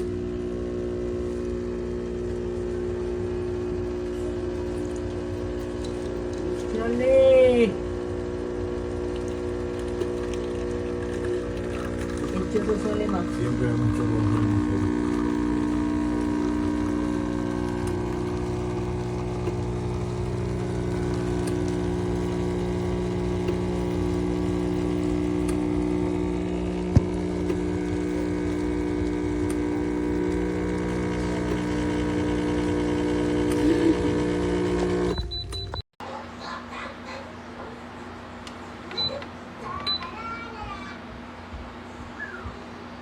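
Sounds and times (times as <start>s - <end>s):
espresso machine pump humming: 0.0s - 35.8s.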